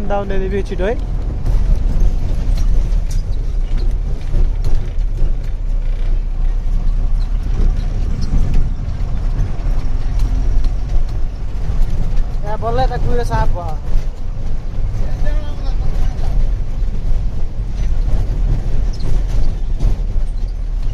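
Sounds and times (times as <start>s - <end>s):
light rattles and clicks: 0.0s - 20.9s
truck engine and road noise: 0.0s - 20.9s.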